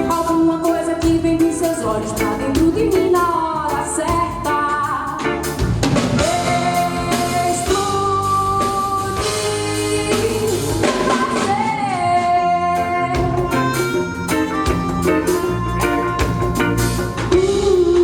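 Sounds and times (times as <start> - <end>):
live band playing: 0.0 - 18.0
woman singing: 0.0 - 18.0.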